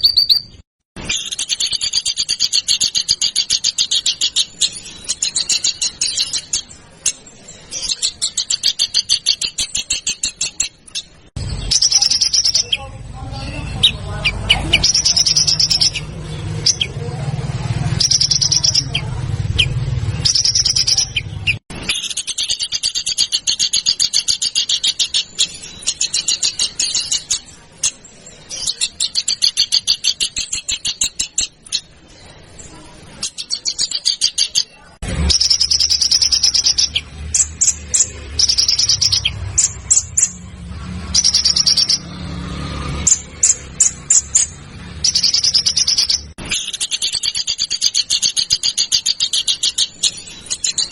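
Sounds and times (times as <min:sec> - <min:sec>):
songbird song: 0:00.0 - 0:50.9.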